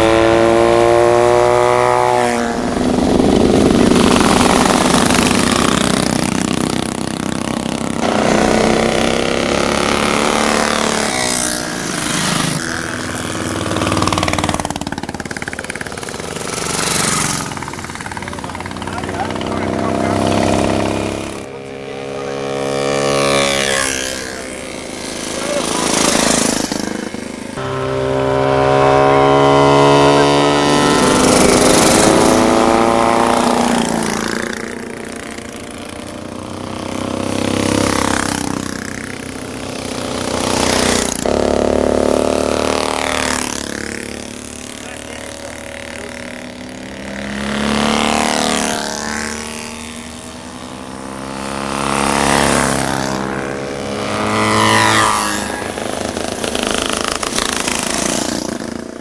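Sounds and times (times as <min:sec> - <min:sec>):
racing motorcycles passing: 0:00.0 - 0:59.0.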